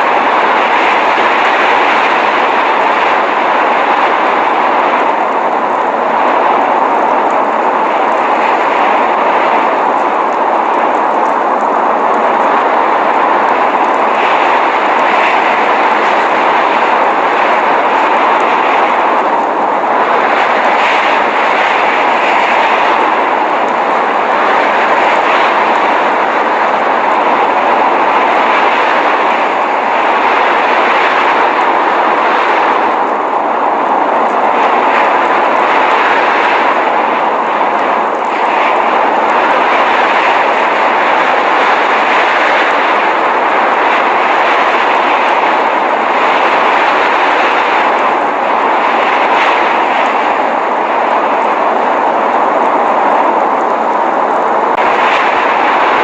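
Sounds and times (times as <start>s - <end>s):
blizzard wind and driving snow: 0.0s - 56.0s.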